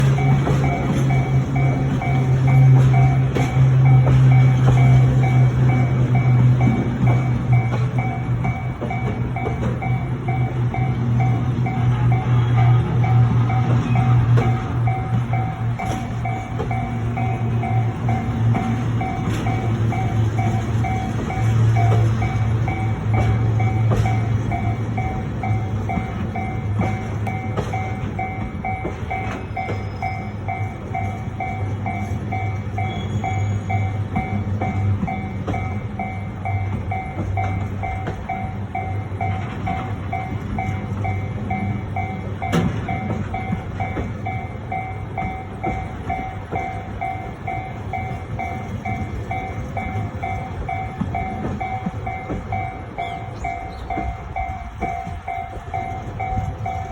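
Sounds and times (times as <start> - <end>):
freight wagons rumbling: 0.0 - 56.9
level crossing bell ringing: 0.0 - 56.9
wheels clicking over rail joints: 0.0 - 56.9.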